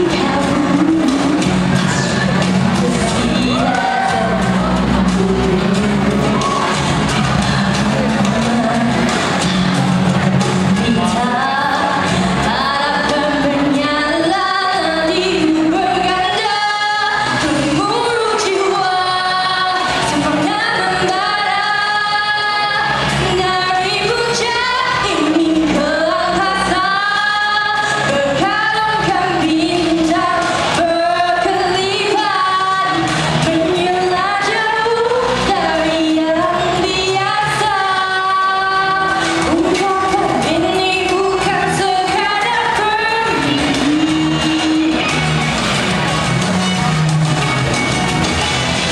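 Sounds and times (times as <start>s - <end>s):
woman singing into microphone: 0.0s - 45.2s
instrumental accompaniment: 0.0s - 48.9s.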